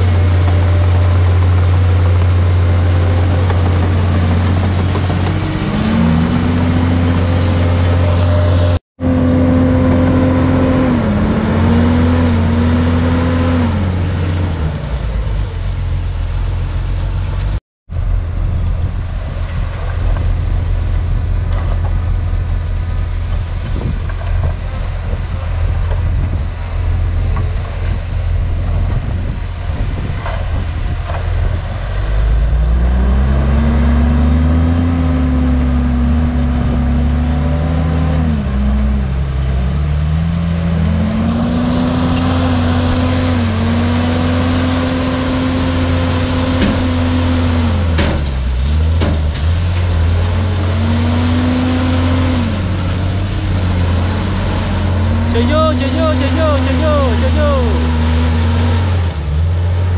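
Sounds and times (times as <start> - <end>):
bulldozer diesel engine revving: 0.0 - 59.9.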